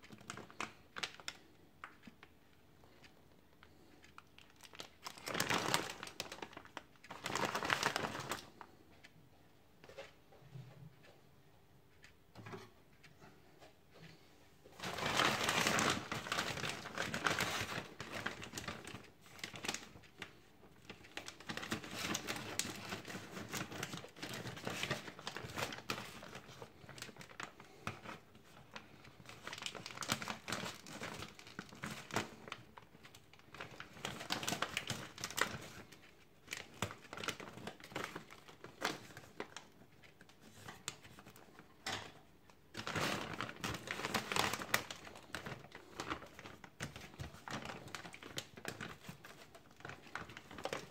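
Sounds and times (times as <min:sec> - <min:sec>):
plastic bag crinkling: 0:00.0 - 0:02.3, 0:03.6 - 0:08.7, 0:14.7 - 0:50.9.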